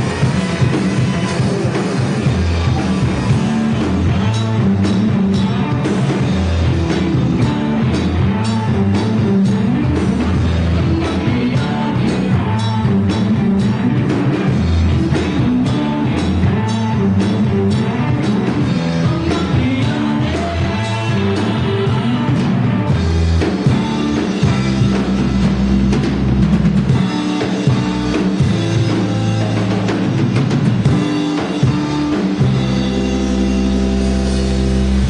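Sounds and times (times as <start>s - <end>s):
distorted electric guitars: 0.0s - 35.0s
drum kit steady beat: 0.0s - 35.0s.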